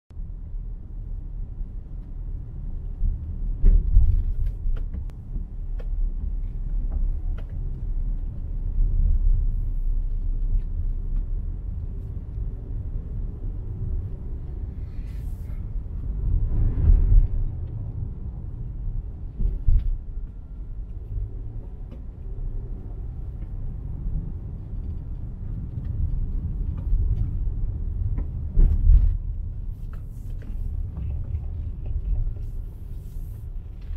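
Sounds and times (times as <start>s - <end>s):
car road rumble: 0.1s - 33.9s.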